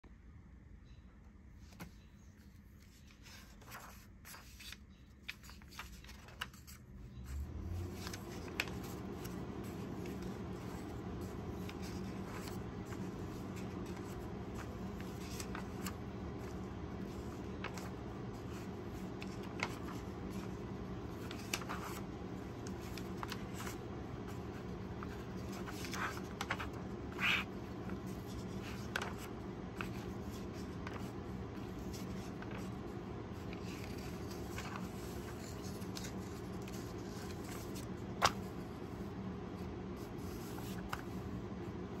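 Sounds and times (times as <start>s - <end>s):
steady low hum: 0.0s - 42.0s
paper pages rustling: 1.6s - 42.0s.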